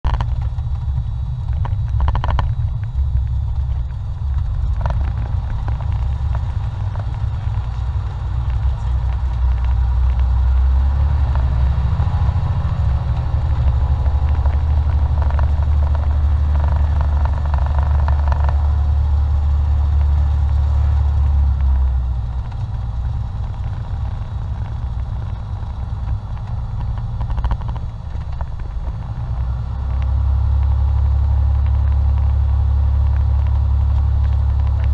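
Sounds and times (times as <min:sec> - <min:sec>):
airplane piston engine drone: 0:00.1 - 0:34.9.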